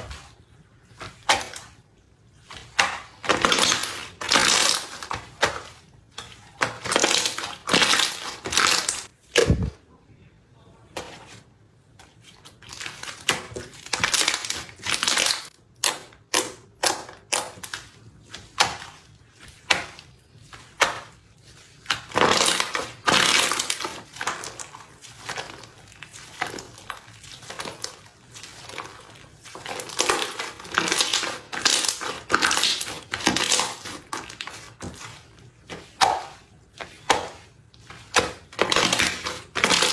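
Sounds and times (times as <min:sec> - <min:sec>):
crispy slime crackling: 0:00.0 - 0:09.1, 0:12.1 - 0:39.9.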